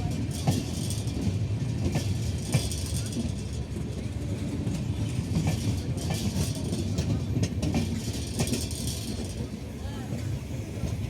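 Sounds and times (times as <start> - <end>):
train coaches rumbling on track: 0.0 - 11.0
wheels clicking over rail joints: 0.1 - 9.5.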